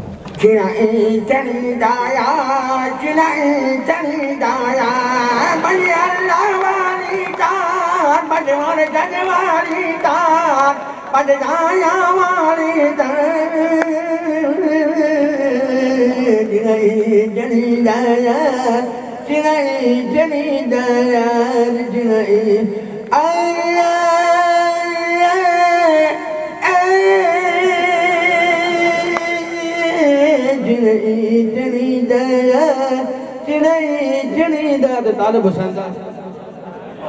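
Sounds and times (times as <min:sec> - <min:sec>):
person singing wordless melody: 0:00.4 - 0:35.7.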